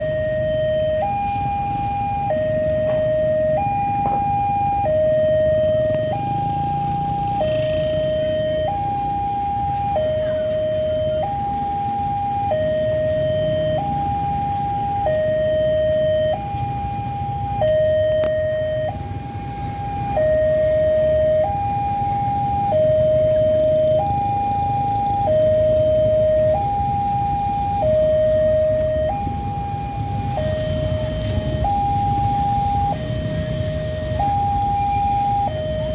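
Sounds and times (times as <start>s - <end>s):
low rumble of vehicle engines: 0.0s - 35.9s
two-tone crossing alarm: 0.0s - 35.9s.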